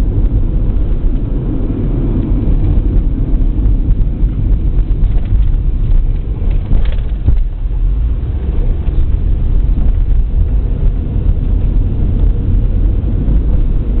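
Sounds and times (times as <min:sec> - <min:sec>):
tyre and engine noise inside car: 0:00.0 - 0:14.0.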